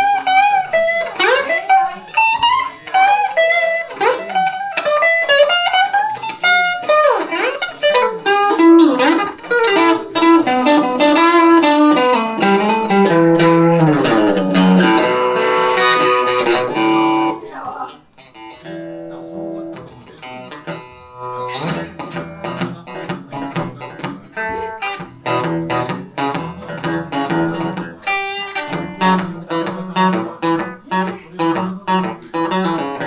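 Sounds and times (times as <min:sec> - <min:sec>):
electric guitar playing blues: 0:00.0 - 0:33.0.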